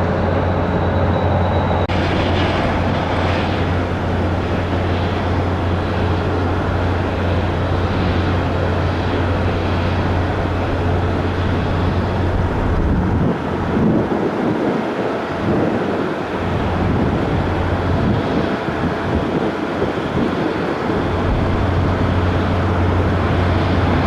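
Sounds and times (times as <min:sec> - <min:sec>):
steady low hum: 0:00.0 - 0:14.0, 0:16.4 - 0:24.0
jet engines at take-off power: 0:00.0 - 0:24.0
wind gusts on microphone: 0:00.0 - 0:24.0.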